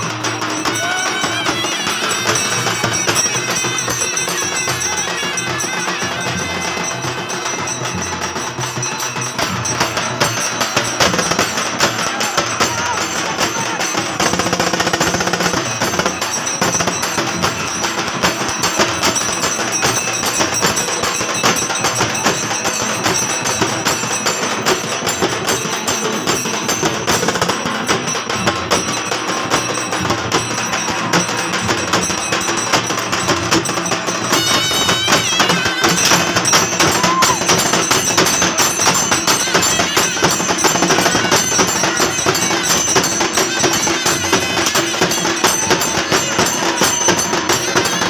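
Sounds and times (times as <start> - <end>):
fast continuous drumming: 0.0 - 48.0.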